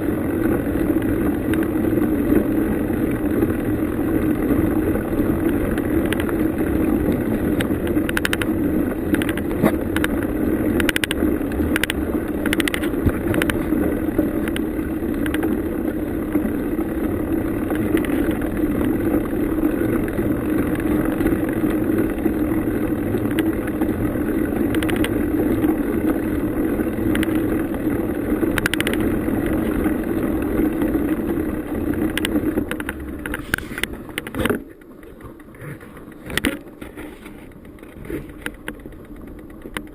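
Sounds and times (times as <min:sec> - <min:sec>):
bicycle tyre rumble: 0:00.0 - 0:39.9
bicycle rattling clicks: 0:03.0 - 0:16.5, 0:17.5 - 0:39.9.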